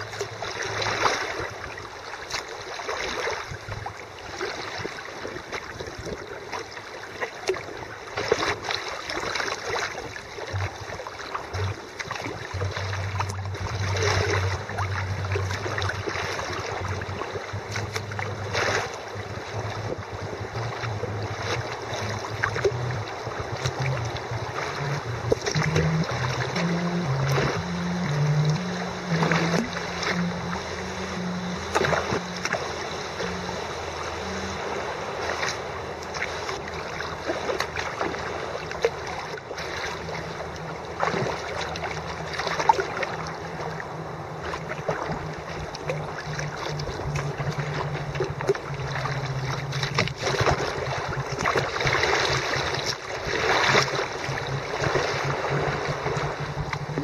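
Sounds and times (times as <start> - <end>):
kayak paddle splashing: 0.0 - 57.0
low steady hum: 0.0 - 57.0
water rushing: 0.0 - 57.0.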